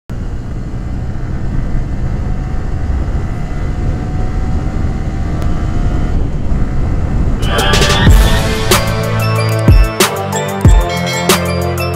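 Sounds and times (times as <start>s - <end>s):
motorcycle engine running: 0.1s - 11.6s.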